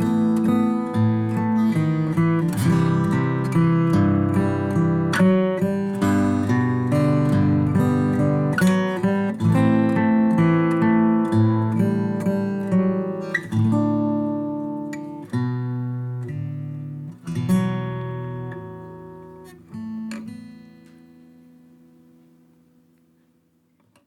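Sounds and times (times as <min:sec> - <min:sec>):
acoustic guitar chords: 0:00.0 - 0:23.9.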